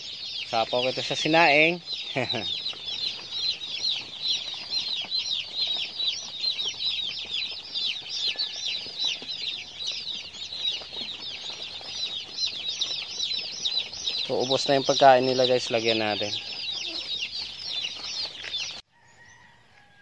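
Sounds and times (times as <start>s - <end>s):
chicks peeping: 0.0s - 19.6s.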